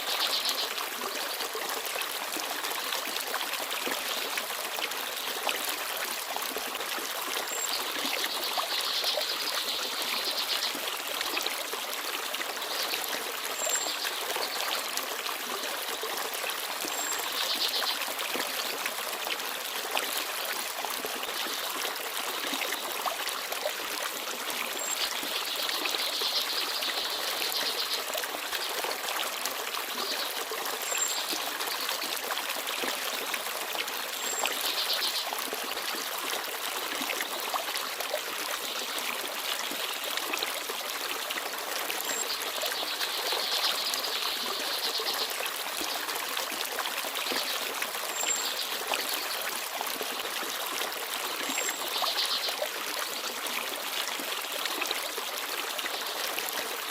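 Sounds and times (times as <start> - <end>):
stream babbling and trickling: 0.0 - 56.9.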